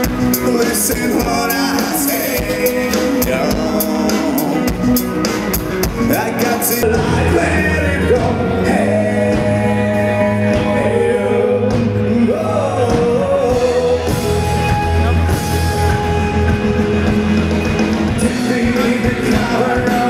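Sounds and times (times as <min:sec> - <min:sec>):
rock song with singer: 0:00.0 - 0:20.0.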